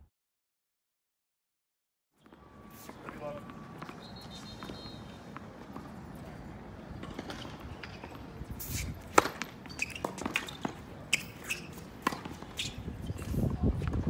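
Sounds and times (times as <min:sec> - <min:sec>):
shuffling footsteps on court: 0:02.2 - 0:14.0
tennis balls struck and bouncing: 0:02.2 - 0:14.0.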